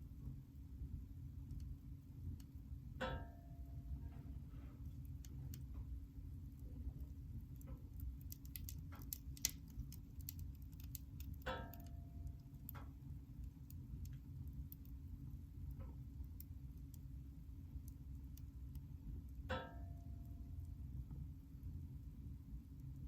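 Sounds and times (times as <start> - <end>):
low fire rumble: 0.0 - 23.0
wood fire crackling and popping: 1.4 - 3.2, 4.3 - 23.0.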